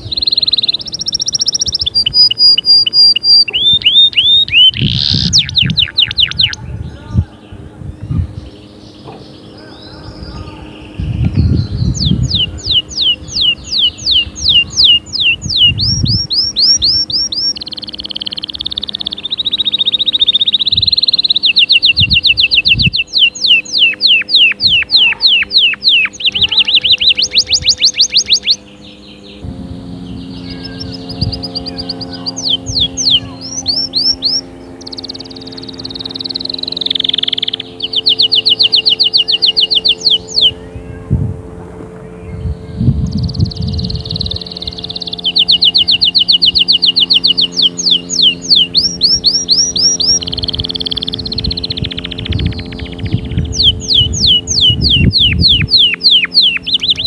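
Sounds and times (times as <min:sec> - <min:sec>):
canary singing fast trills: 0:00.0 - 0:41.5, 0:42.1 - 0:57.0.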